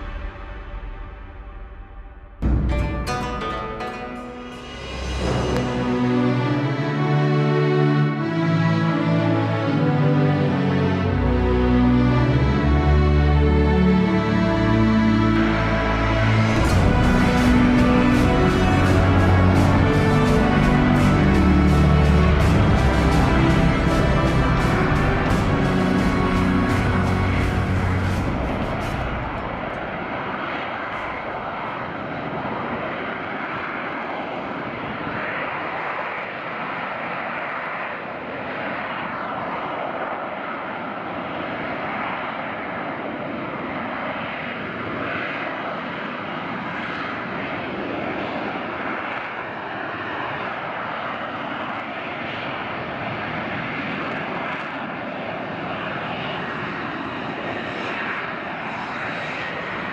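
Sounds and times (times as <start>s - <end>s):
jet engine running: 4.6s - 59.9s.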